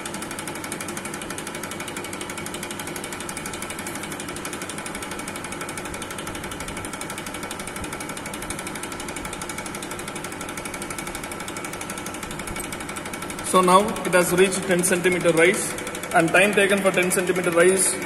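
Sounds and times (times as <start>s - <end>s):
piston pump knocking: 0.0s - 18.0s.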